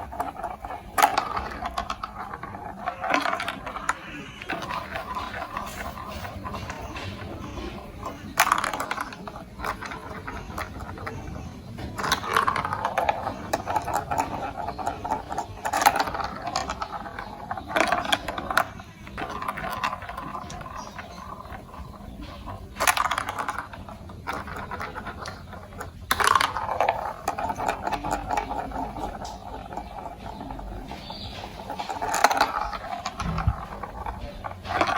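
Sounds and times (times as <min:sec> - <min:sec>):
marble clacking: 0:00.0 - 0:34.9
marbles rolling on plastic track: 0:00.0 - 0:34.9.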